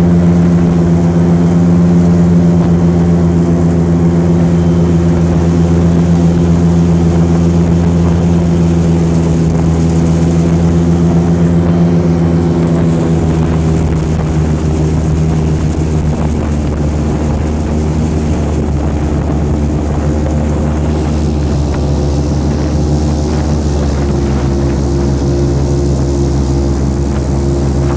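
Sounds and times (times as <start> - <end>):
airboat engine and propeller drone: 0.0 - 27.9.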